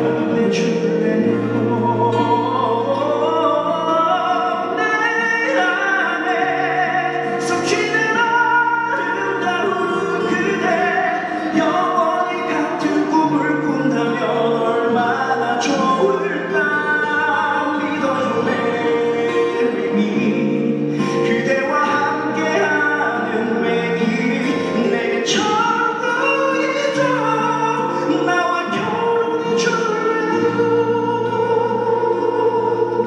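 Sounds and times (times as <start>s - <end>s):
man singing a ballad: 0.0s - 33.0s.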